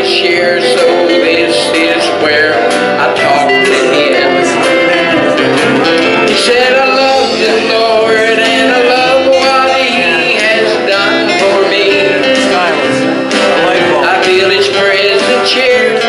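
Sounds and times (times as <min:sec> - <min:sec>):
guitar accompaniment: 0:00.0 - 0:16.0
man singing into a microphone: 0:00.0 - 0:16.0.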